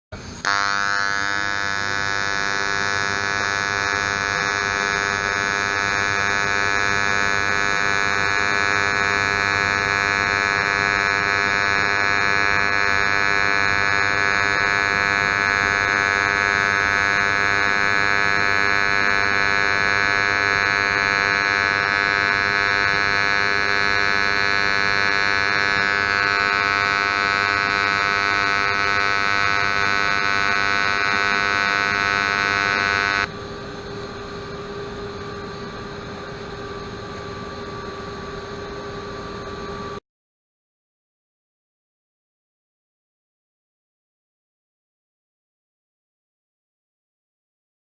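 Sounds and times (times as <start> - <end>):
welding arc buzzing: 0.2 - 40.0.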